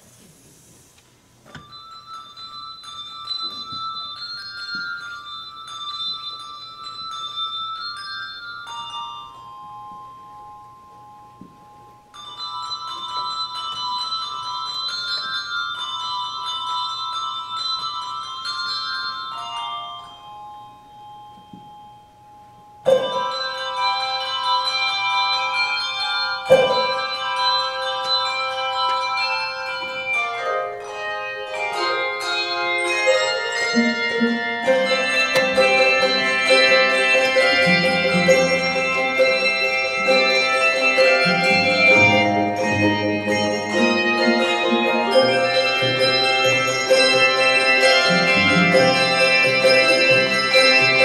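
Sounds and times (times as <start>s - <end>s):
handbell choir ringing: 1.6s - 51.0s.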